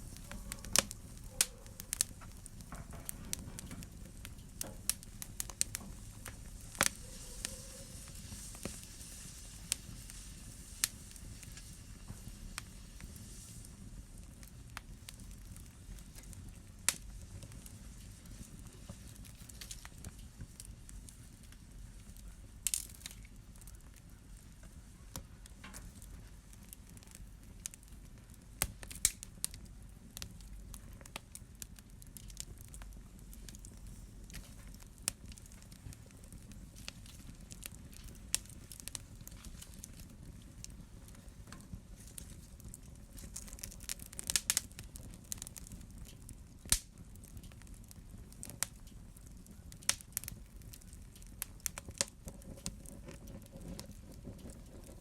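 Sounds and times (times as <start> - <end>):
fire crackling: 0.0 - 55.0
sharp pops of fire: 0.0 - 55.0.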